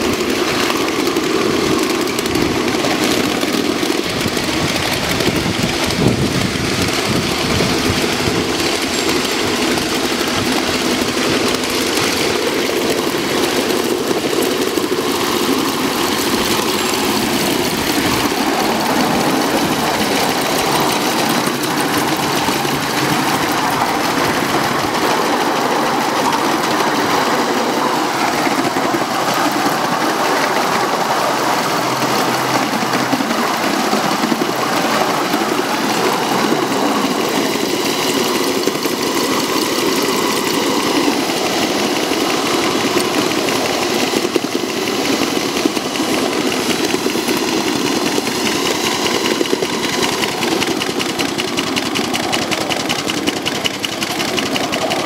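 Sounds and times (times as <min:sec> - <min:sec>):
model steam locomotive working: 0:00.0 - 0:55.0
wheels rolling on rails: 0:00.0 - 0:55.0.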